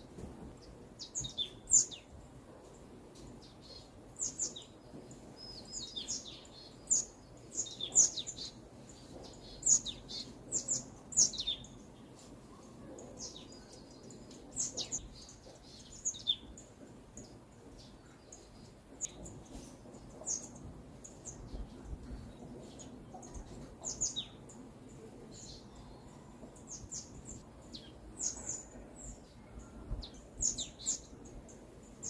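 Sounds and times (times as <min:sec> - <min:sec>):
small songbirds chirping: 0:00.0 - 0:32.0.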